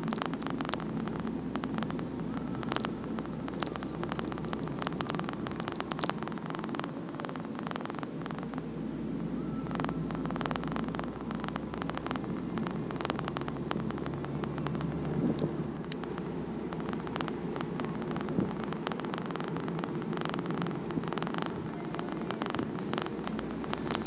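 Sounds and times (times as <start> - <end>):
crackling clicks: 0.0 - 24.0
road and wind noise: 0.0 - 24.0.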